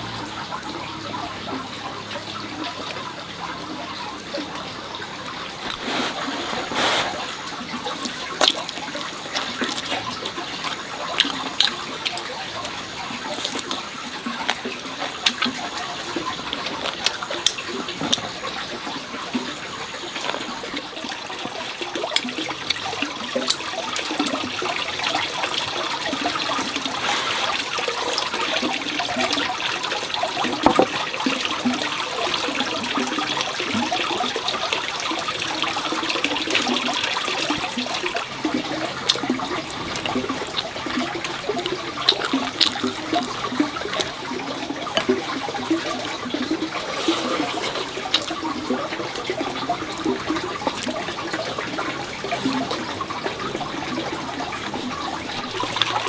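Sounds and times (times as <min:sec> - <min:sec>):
water gurgling and splashing: 0:00.0 - 0:56.0.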